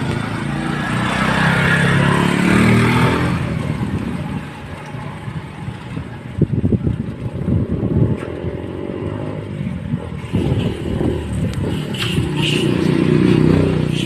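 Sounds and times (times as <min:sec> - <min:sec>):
vehicle rumbling and rattling: 0:00.0 - 0:14.0.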